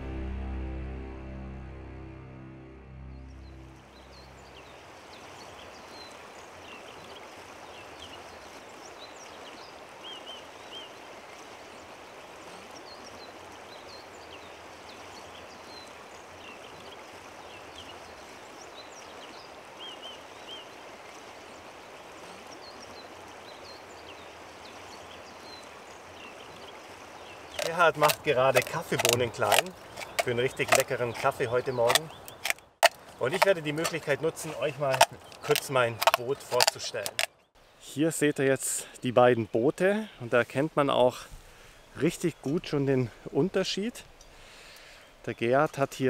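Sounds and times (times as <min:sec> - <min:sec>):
small birds chirping: 0:03.2 - 0:46.0
flowing water rushing: 0:03.7 - 0:46.0.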